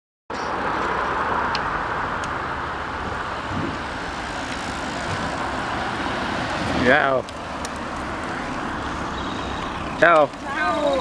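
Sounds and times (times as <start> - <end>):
roadside traffic: 0.3 - 11.0.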